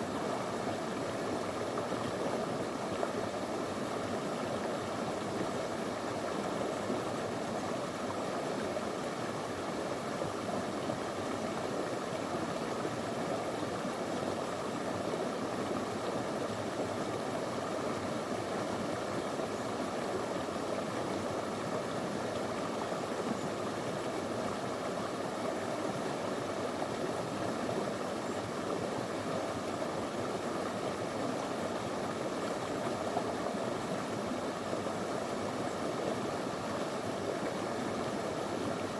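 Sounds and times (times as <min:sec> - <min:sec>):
river flowing over stones: 0:00.0 - 0:38.9.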